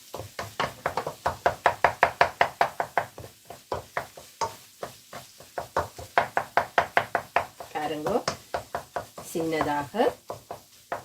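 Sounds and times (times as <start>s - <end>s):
spoon knocking against pan: 0.1s - 11.0s.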